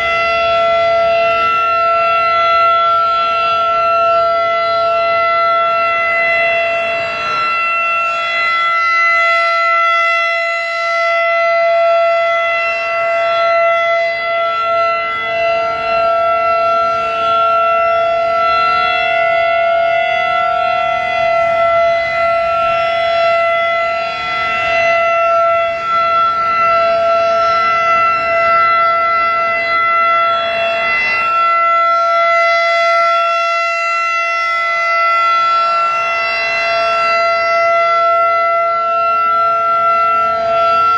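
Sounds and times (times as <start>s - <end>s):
warning siren held chord: 0.0s - 40.9s.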